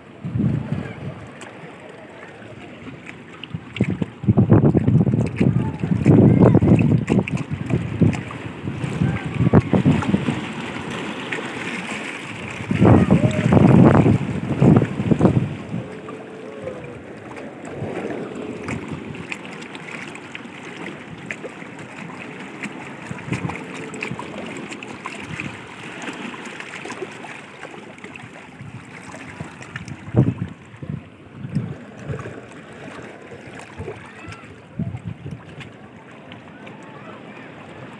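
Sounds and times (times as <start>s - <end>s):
sea water splashing among rocks: 0.0s - 37.9s.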